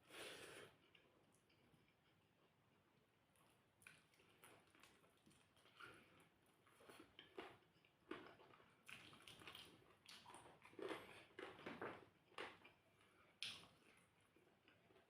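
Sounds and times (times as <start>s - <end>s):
person chewing food: 0.7s - 15.0s.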